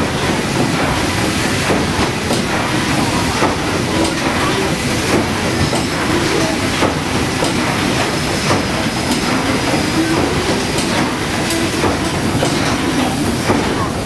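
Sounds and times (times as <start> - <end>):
steam engine rumbling and knocking: 0.0 - 14.0.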